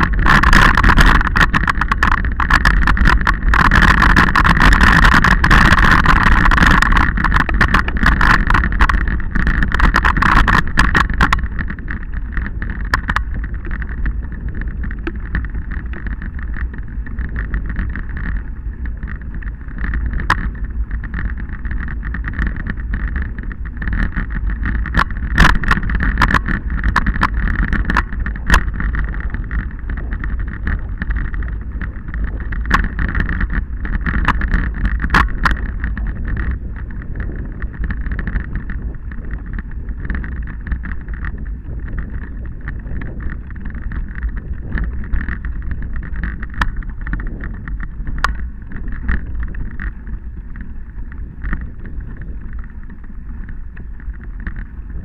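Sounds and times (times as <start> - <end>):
rumble and rattle on dirt track: 0.0 - 55.0
sharp clicks and knocks: 0.0 - 55.0
steady high hum: 0.0 - 55.0
wind rushing over microphone: 0.0 - 55.0.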